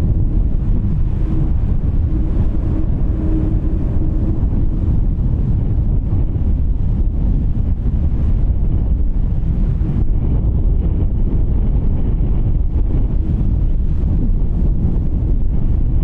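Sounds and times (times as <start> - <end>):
faint steady hum: 0.0 - 16.0
jet engines rumbling: 0.0 - 16.0
wind buffeting microphone: 0.0 - 16.0.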